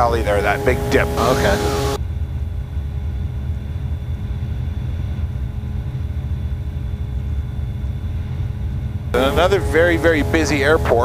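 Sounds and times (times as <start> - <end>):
aircraft engine and propeller drone: 0.0 - 11.0
faint steady tones: 0.0 - 11.0.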